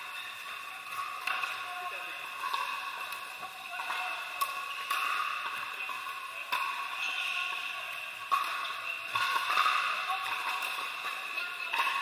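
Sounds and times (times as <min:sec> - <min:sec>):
indoor hall background din: 0:00.0 - 0:12.0.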